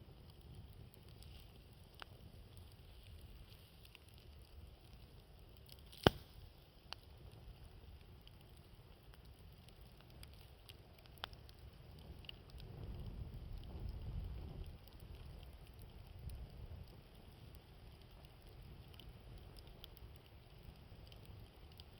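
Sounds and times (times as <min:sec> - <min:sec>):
campfire crackling and popping: 0:00.0 - 0:21.9
low wind rumble: 0:00.0 - 0:21.9.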